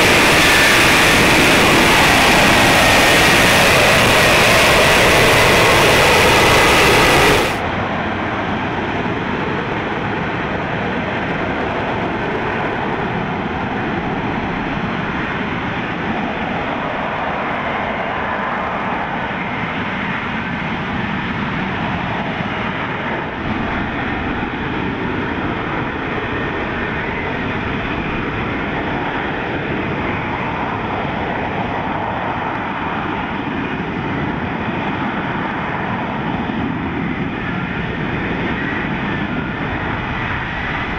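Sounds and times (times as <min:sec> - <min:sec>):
jet engine roaring with whine: 0:00.0 - 0:40.9.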